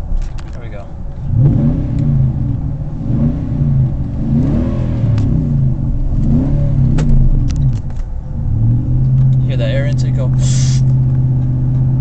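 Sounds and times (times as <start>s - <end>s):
engine accelerating through gears: 1.2s - 12.0s.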